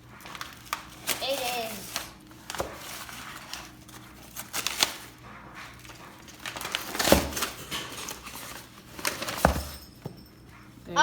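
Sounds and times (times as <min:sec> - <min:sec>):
gift wrapping being torn: 0:00.2 - 0:09.4.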